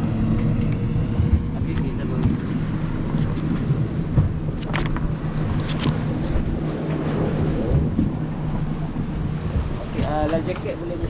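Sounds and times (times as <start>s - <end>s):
motorboat engine running: 0.0s - 11.0s
water against hull: 0.0s - 11.0s
wind noise: 0.0s - 11.0s.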